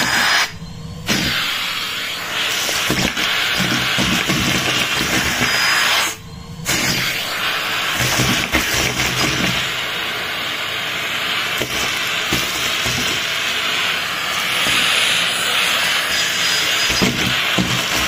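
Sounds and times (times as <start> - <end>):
vacuum cleaner sucking carpet: 0.0 - 18.0.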